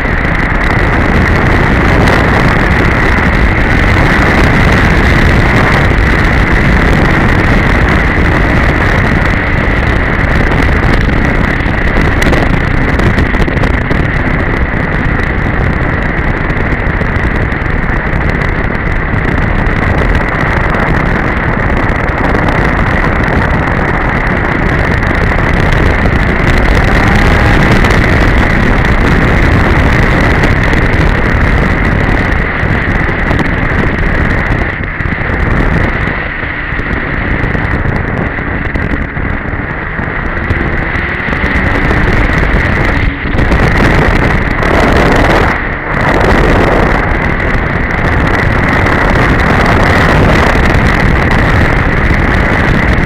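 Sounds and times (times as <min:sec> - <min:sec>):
snowmobile engine whine: 0:00.0 - 0:53.0
wind rush on microphone: 0:00.0 - 0:53.0.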